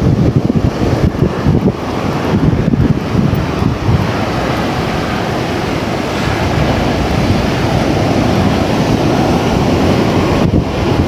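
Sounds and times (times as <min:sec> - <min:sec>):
surf breaking on beach: 0:00.0 - 0:11.0
wind rumbling on microphone: 0:00.0 - 0:11.0.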